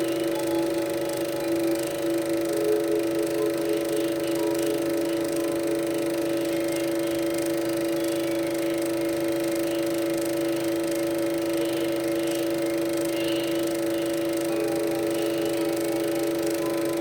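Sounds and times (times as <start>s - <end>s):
droning held tones: 0.0s - 17.0s.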